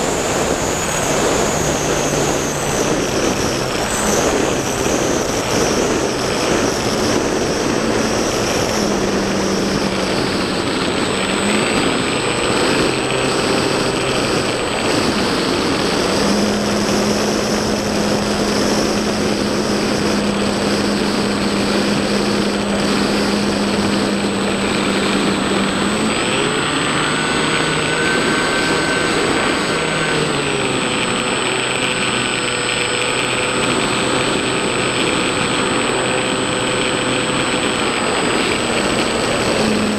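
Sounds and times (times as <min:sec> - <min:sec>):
motor and propeller hum: 0:00.0 - 0:39.9
wind rushing over airframe: 0:00.0 - 0:39.9.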